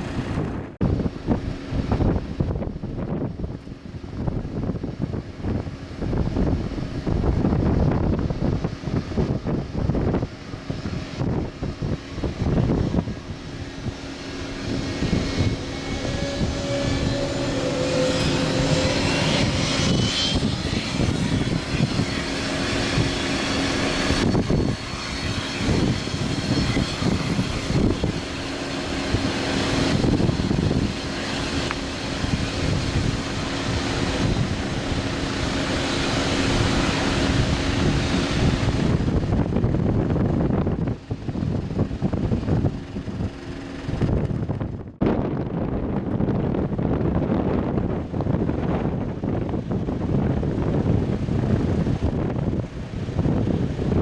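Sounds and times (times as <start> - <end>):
jet engines powering up: 0.0 - 45.0
wind buffeting microphone: 0.0 - 54.0.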